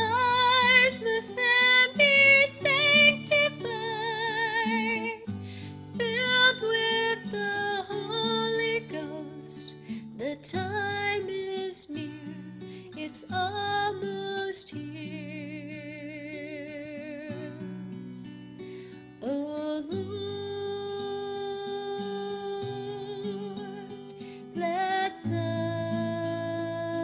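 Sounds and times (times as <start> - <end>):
woman singing with vibrato: 0.0 - 17.6, 19.2 - 27.0
strummed acoustic guitar: 0.0 - 27.0.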